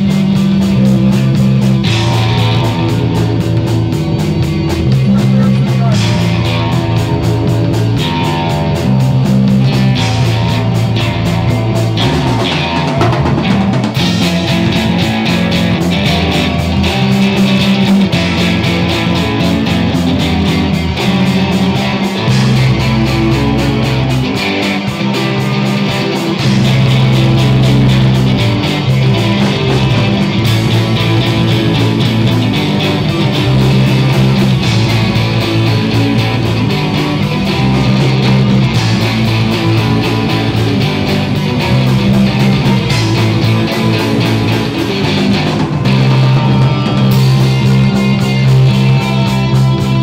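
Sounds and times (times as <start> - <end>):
drum hits: 0.0 - 50.0
rock band playing: 0.0 - 50.0.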